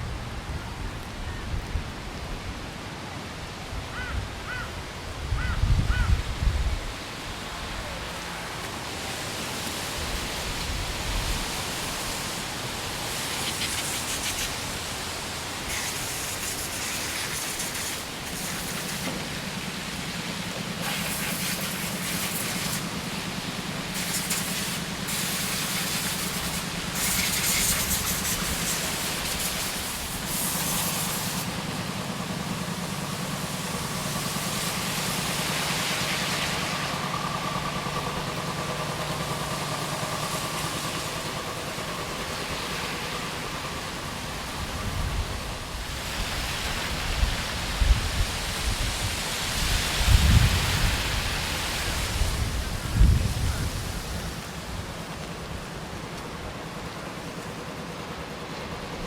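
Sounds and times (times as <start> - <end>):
wind and rain hiss: 0.0 - 59.0
low engine hum: 4.9 - 59.0.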